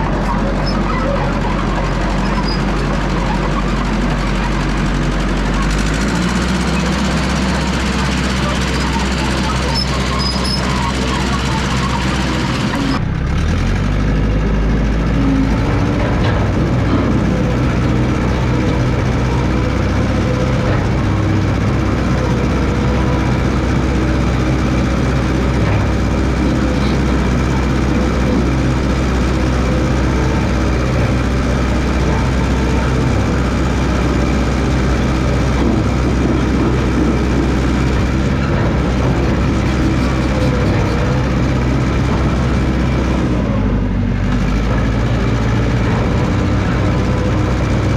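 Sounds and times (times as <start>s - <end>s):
dozer engine humming: 0.0s - 47.9s.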